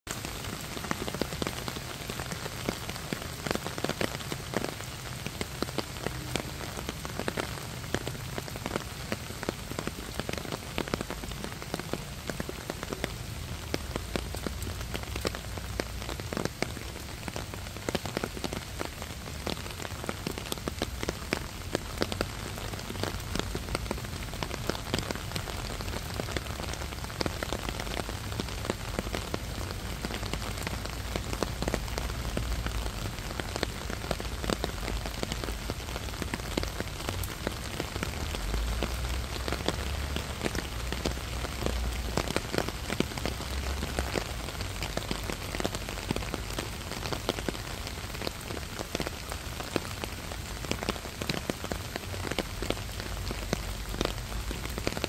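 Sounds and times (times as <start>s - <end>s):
steady rain: 0.1s - 55.0s.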